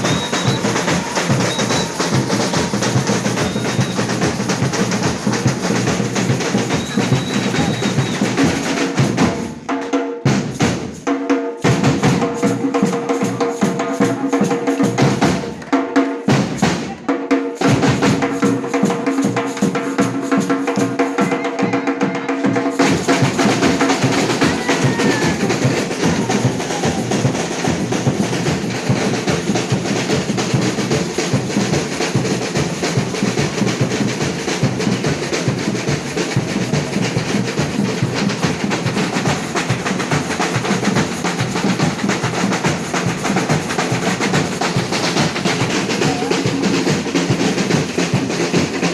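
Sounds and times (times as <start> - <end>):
samba percussion drumming: 0.0 - 48.9.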